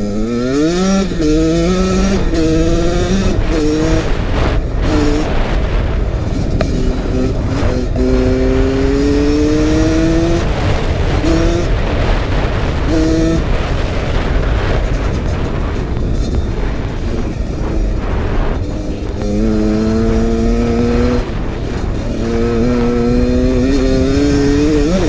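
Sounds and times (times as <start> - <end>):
dirt bike engine revving: 0.0 - 25.0
wind rumble on microphone: 0.0 - 25.0.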